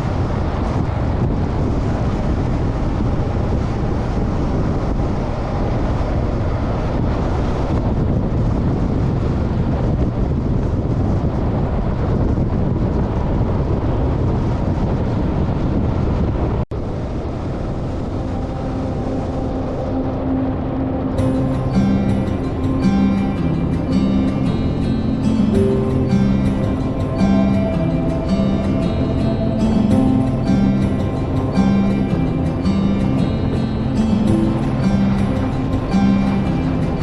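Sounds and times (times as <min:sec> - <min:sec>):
motorcycle engine drone: 0:00.0 - 0:37.0
wind buffeting microphone: 0:00.0 - 0:37.0.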